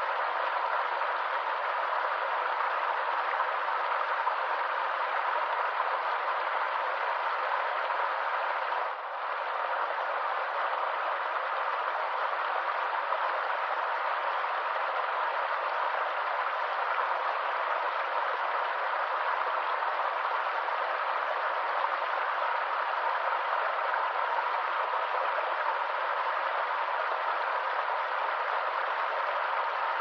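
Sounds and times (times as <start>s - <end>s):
stream water rushing over rocks: 0.0s - 30.0s.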